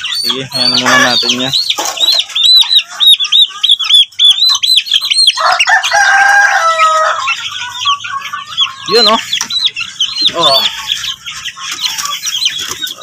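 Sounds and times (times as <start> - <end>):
chicken drawn-out call: 0.0 - 13.0
chicks peeping loudly: 0.0 - 13.0.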